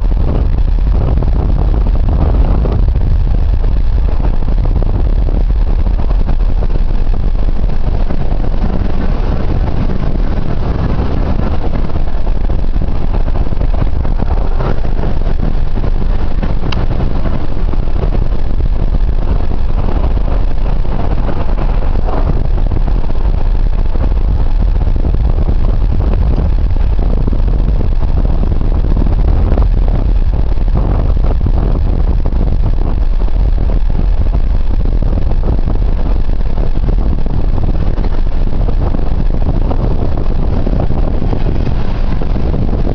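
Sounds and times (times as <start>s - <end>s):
car engine and road noise: 0.0s - 42.9s
wind noise: 0.0s - 42.9s.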